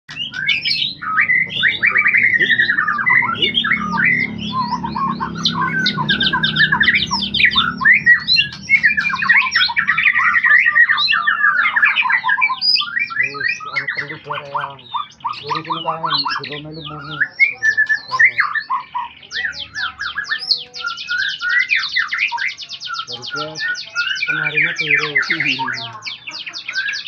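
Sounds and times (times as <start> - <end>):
bird singing whistled trills: 0.1 - 27.0.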